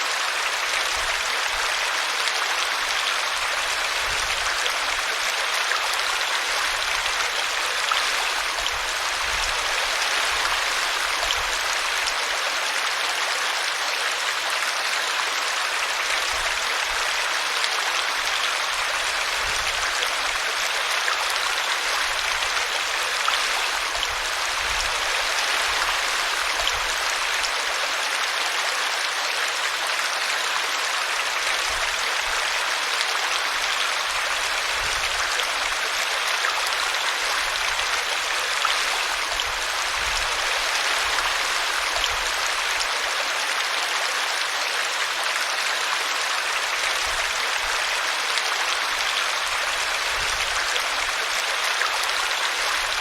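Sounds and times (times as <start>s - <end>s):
brook babbling: 0.0s - 53.0s.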